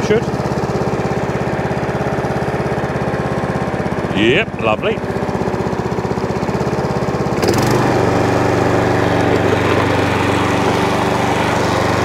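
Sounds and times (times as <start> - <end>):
lawn mower engine idling: 0.0 - 12.0.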